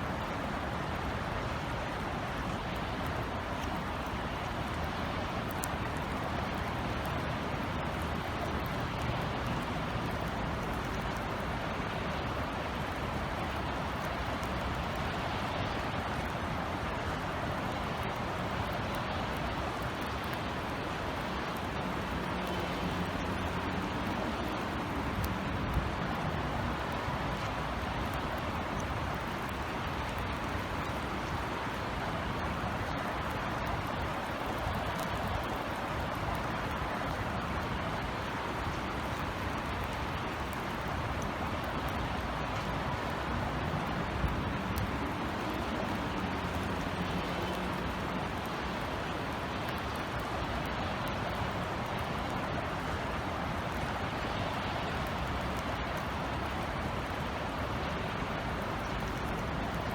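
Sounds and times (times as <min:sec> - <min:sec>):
light rain hissing: 0:00.0 - 0:59.9
low city rumble: 0:00.1 - 0:59.9.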